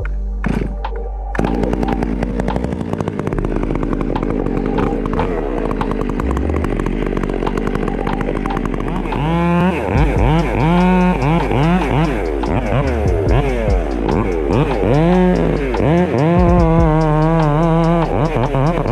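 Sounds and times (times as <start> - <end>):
chainsaw running: 0.4 - 0.8, 1.4 - 18.9.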